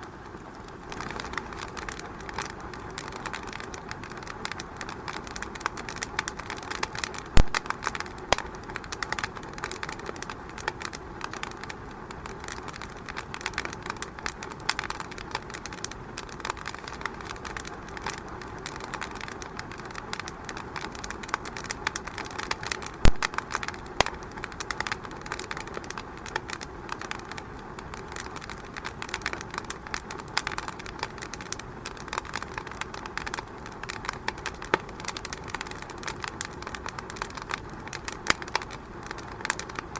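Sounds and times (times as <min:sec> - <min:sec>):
loud pops of fire: 0:00.0 - 0:39.9
wood fire crackling: 0:00.0 - 0:39.9.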